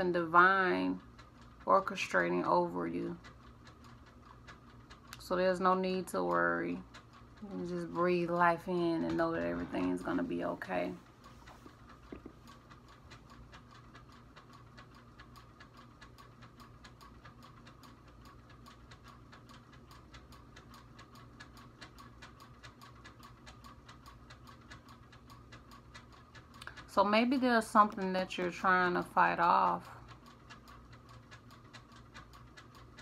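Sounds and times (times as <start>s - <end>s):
faint steady ticking: 0.0s - 33.0s
low room hum: 0.0s - 33.0s.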